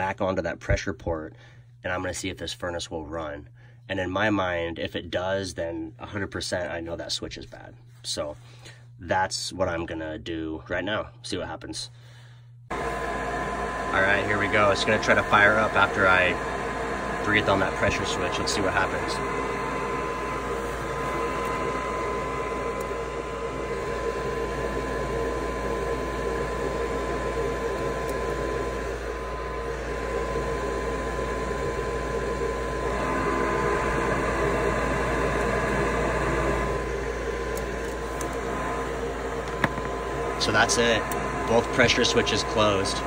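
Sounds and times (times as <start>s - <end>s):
furnace draft inducer motor humming: 0.0s - 43.0s.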